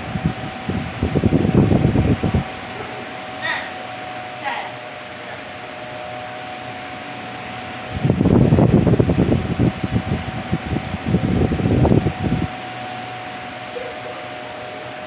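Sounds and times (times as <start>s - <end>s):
loud low rumbling: 0.0s - 15.0s
table fan running: 0.0s - 15.0s.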